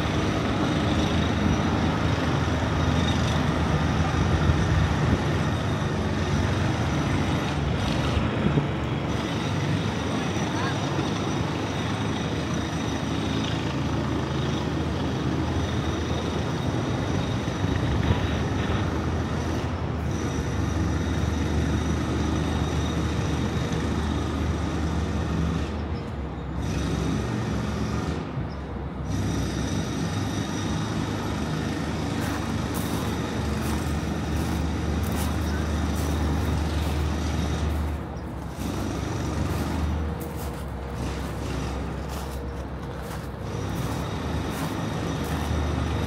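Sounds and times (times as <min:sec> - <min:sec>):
low mechanical hum: 0:00.0 - 0:46.0
traffic running: 0:00.0 - 0:46.0.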